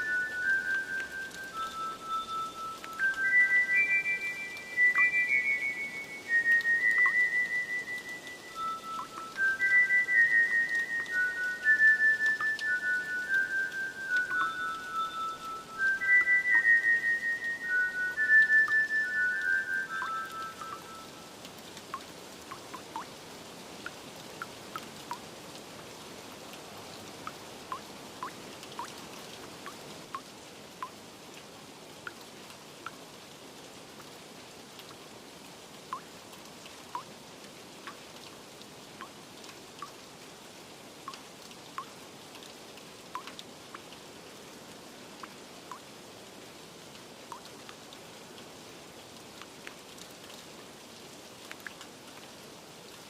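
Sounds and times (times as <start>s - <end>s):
water drips plinking: 0.0s - 31.4s, 32.0s - 33.0s, 35.8s - 40.2s, 41.0s - 44.1s, 45.0s - 46.0s, 46.8s - 53.0s
rain falling: 0.0s - 53.0s.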